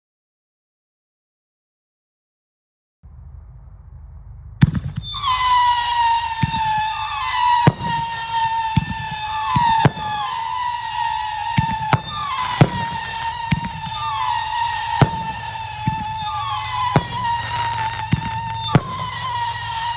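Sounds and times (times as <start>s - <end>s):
fireworks whistling: 3.1s - 19.9s
fireworks cracks: 3.8s - 19.9s.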